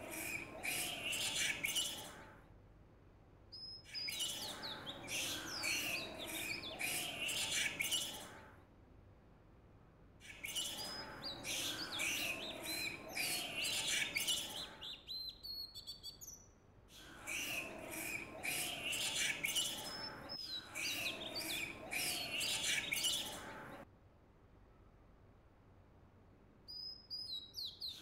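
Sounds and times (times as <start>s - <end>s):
small birds chirping and twittering: 0.0s - 2.5s, 3.5s - 8.6s, 10.2s - 23.9s, 26.7s - 28.0s.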